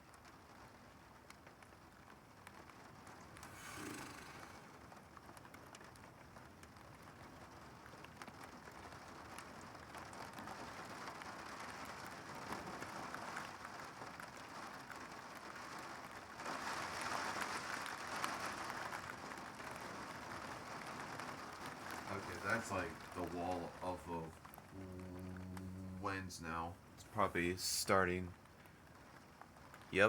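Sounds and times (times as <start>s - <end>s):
rain patter: 0.0s - 30.0s.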